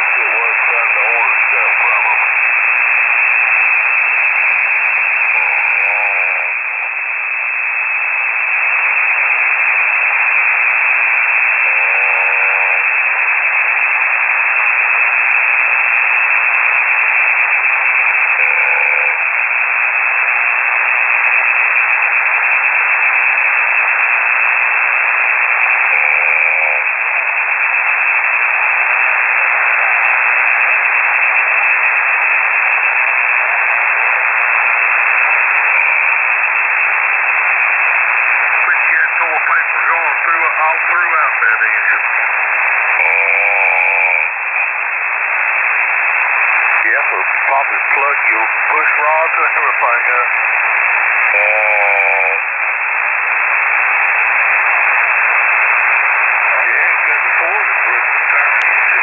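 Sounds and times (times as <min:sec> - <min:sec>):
radio hiss and static: 0:00.0 - 0:59.0.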